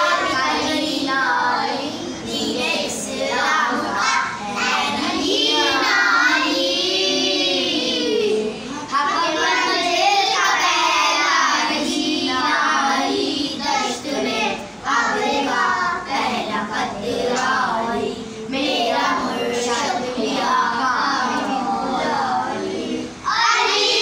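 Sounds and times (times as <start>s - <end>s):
children singing together: 0.0s - 24.0s.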